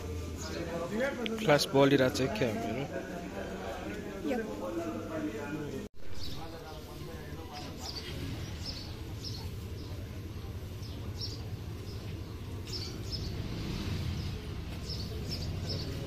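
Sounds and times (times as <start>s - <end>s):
low rumble of street noise: 0.0s - 16.0s.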